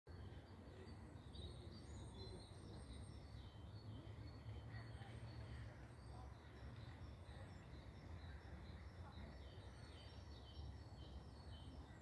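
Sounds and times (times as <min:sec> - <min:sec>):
songbirds chirping: 0:00.1 - 0:12.0.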